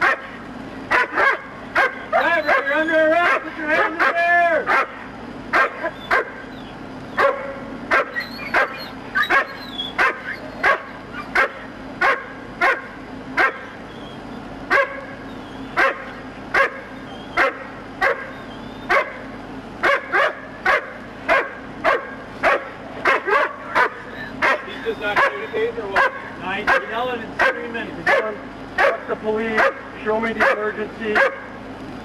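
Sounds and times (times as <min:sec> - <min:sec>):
dog barking: 0:00.0 - 0:06.5, 0:07.2 - 0:13.8, 0:14.7 - 0:15.2, 0:15.8 - 0:19.2, 0:19.8 - 0:31.5.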